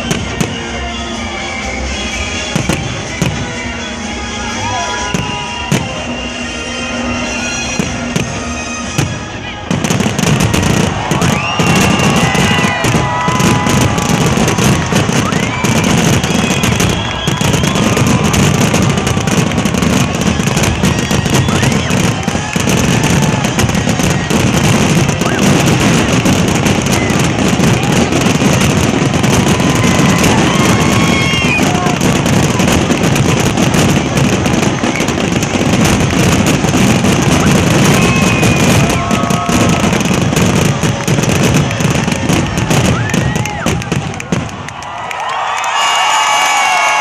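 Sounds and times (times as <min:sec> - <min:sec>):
music playing: 0:00.0 - 0:42.8
fireworks bursting and crackling: 0:00.0 - 0:47.0.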